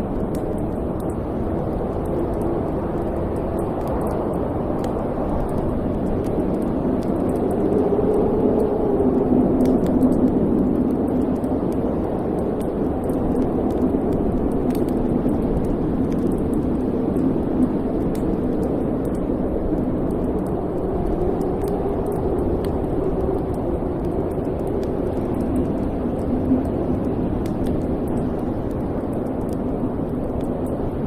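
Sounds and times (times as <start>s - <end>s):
fire crackles: 0.0s - 31.0s
fire roaring: 0.0s - 31.0s.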